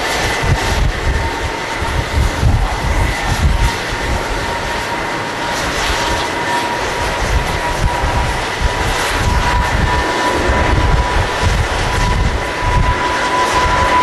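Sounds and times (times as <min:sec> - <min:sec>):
jet engines roaring at takeoff: 0:00.0 - 0:14.0.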